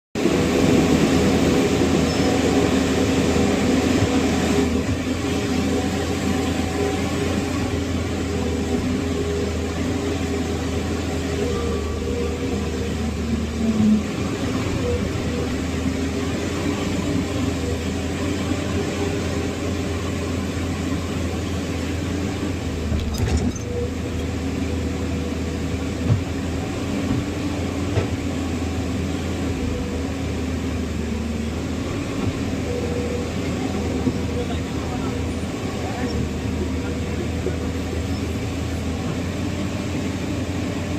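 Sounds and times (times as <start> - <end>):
heavy diesel engine running: 0.2 - 40.9.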